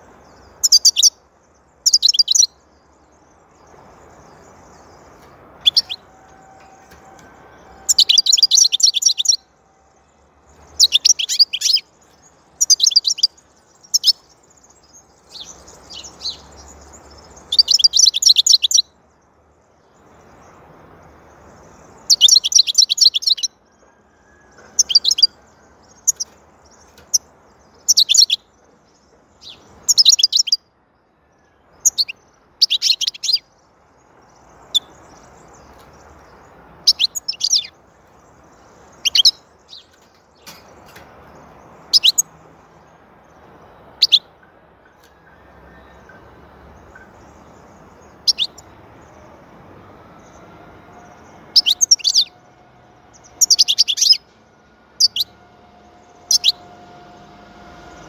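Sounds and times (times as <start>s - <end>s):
goldfinch twittering song: 0.0s - 9.5s, 10.4s - 19.0s, 19.9s - 23.6s, 24.5s - 30.6s, 31.8s - 44.4s, 45.0s - 49.4s, 50.2s - 52.4s, 53.1s - 54.4s, 55.0s - 57.0s.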